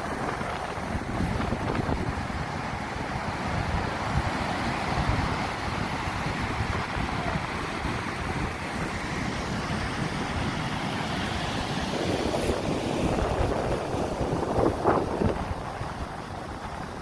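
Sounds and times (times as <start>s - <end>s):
surf washing on sandy beach: 0.0s - 17.0s
wind buffeting microphone: 0.0s - 17.0s.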